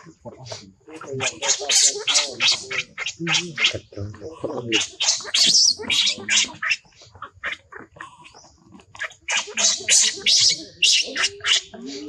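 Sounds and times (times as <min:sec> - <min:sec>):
baby monkey screaming: 0:00.9 - 0:03.9, 0:04.5 - 0:08.4, 0:09.0 - 0:12.0.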